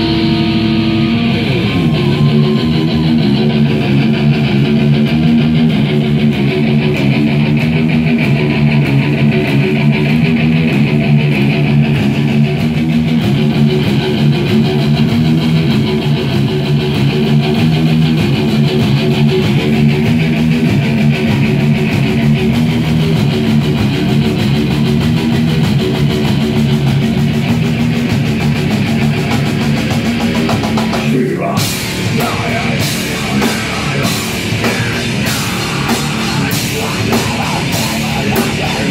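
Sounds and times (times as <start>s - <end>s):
electric guitar ringing: 0.0s - 38.9s
rock band playing: 0.0s - 38.9s.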